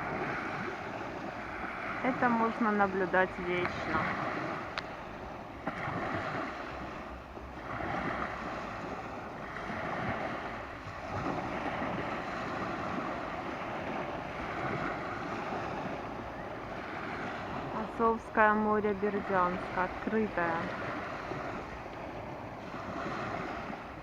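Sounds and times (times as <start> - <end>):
waves washing onto shore: 0.0 - 24.0
wind buffeting microphone: 0.0 - 24.0.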